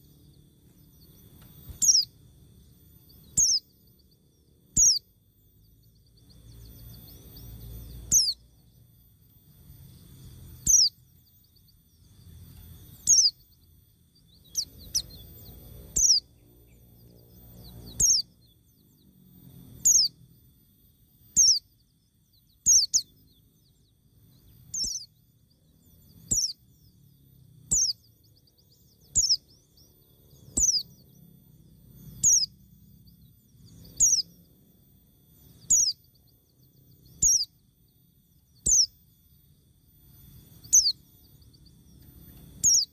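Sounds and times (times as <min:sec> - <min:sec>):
bird high downward call: 0:00.0 - 0:19.0, 0:19.8 - 0:20.2, 0:21.2 - 0:26.9, 0:27.7 - 0:34.5, 0:35.3 - 0:39.2, 0:40.0 - 0:42.9.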